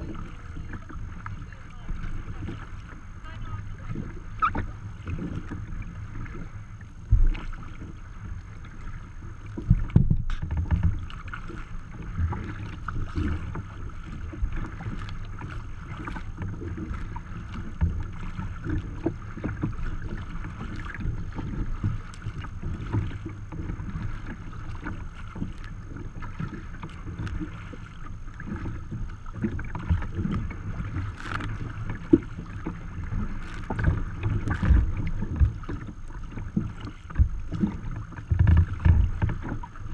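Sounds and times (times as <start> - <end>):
water slapping against hull: 0.0 - 39.9
wind rumbling on microphone: 0.0 - 39.9.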